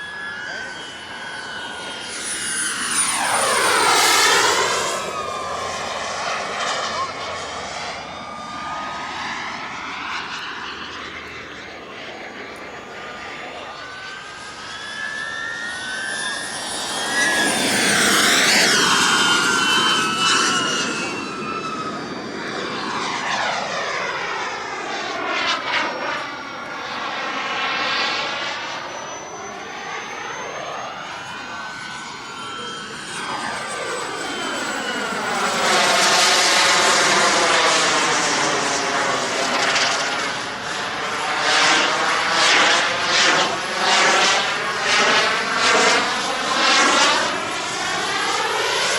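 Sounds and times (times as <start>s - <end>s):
model jet turbine whining: 0.0s - 48.9s.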